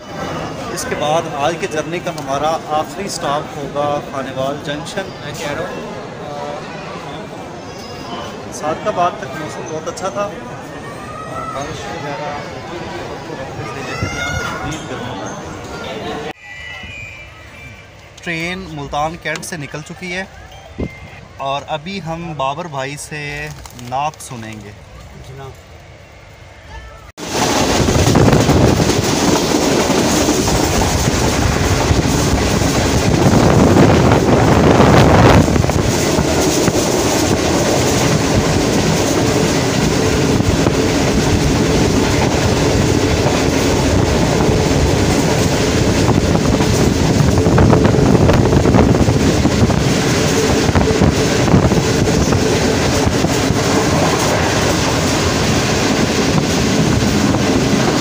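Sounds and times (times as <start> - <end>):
train wheels running on track: 0.0 - 6.2, 6.8 - 26.5, 27.2 - 58.0.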